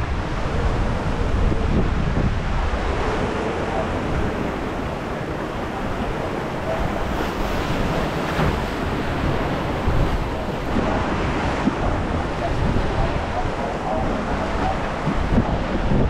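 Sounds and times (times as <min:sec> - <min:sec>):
churning whitewater rushing: 0:00.0 - 0:16.0.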